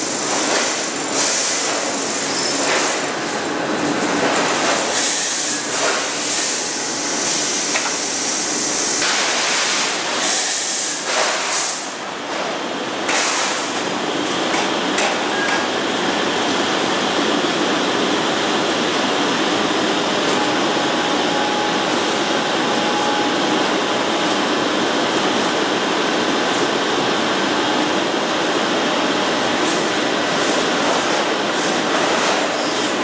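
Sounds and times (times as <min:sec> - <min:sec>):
machinery clatter and hiss: 0:00.0 - 0:20.6, 0:23.6 - 0:33.0.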